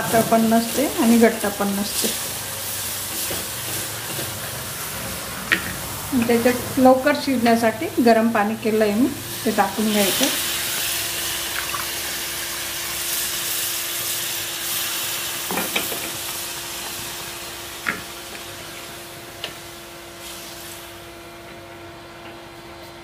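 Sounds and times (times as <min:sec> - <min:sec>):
curry sizzling and bubbling: 0:00.0 - 0:22.1.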